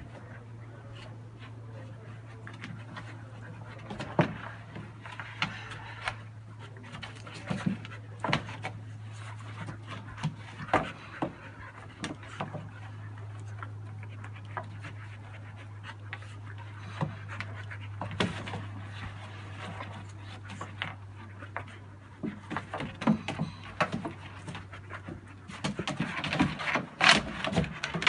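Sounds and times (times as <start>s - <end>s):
dogs panting: 0.0s - 28.0s
dogs snapping and scuffling: 0.0s - 28.0s
steady low hum: 0.0s - 28.0s.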